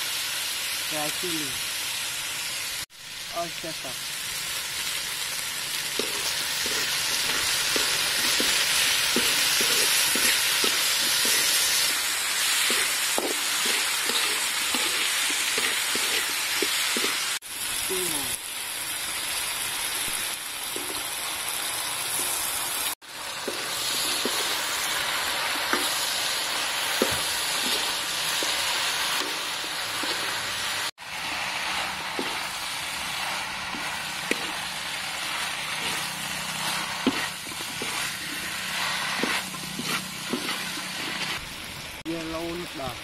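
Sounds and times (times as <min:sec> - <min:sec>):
food sizzling in a wok: 0:00.0 - 0:43.0.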